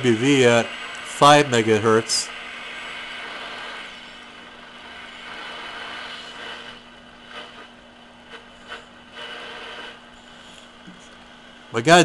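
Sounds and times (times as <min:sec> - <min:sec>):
low hum: 0:00.0 - 0:12.0
radio static hissing: 0:00.0 - 0:12.0.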